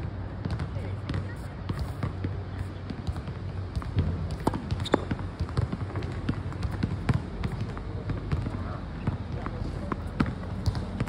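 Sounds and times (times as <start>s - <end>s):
shoes scuffing on court: 1.2s - 11.0s.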